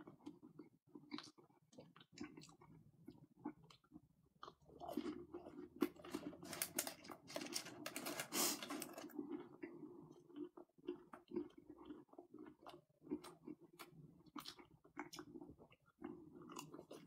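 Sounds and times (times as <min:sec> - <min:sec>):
crunching of crispy food: 0:00.0 - 0:17.0.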